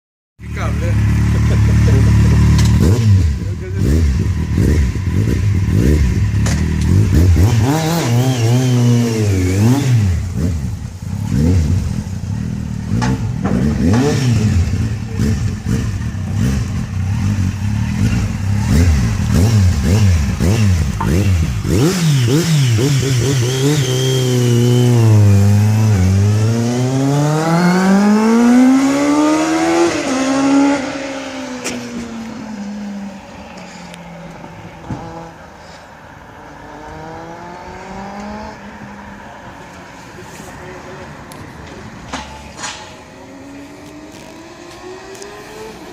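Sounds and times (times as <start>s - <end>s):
motorcycle engine revving: 0.4s - 39.3s, 40.2s - 45.9s.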